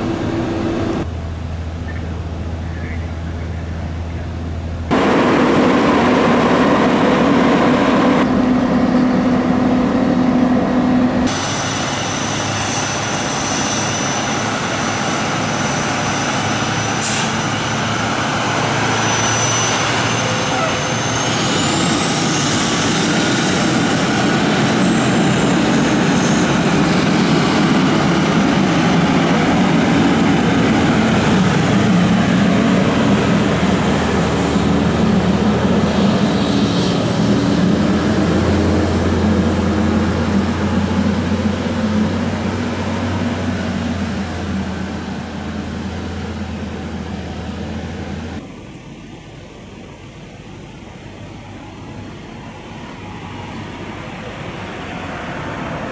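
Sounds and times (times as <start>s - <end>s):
diesel engine driving past: 0.0s - 48.5s, 51.0s - 55.9s.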